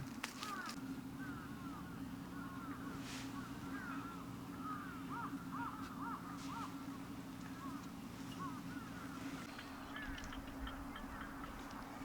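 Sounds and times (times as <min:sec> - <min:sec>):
steady low hum: 0:00.0 - 0:12.0
birds calling: 0:00.3 - 0:12.0.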